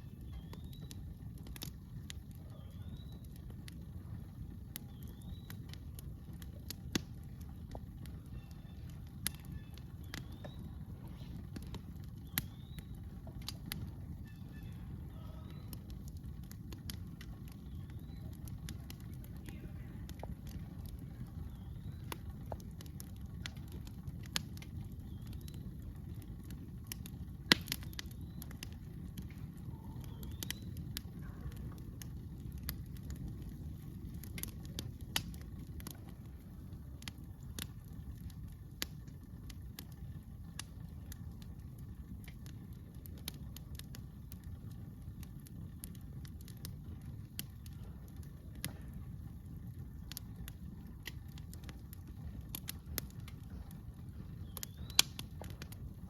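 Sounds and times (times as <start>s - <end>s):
campfire crackling and popping: 0.0s - 56.0s
low rumble of fire: 0.0s - 56.0s.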